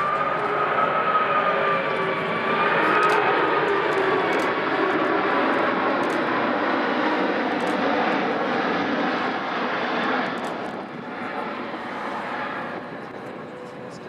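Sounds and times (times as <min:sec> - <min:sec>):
jet aircraft flying overhead: 0:00.0 - 0:14.0.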